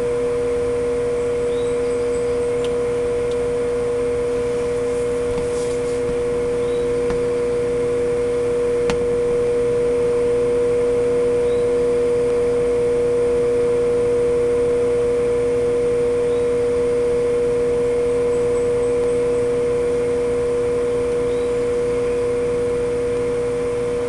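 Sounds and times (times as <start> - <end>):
incubator electric hum: 0.0 - 24.0.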